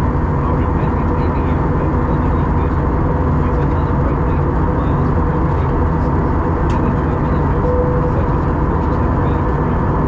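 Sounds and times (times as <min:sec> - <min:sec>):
airplane cabin engine rush: 0:00.0 - 0:10.0
faint hum: 0:00.0 - 0:10.0.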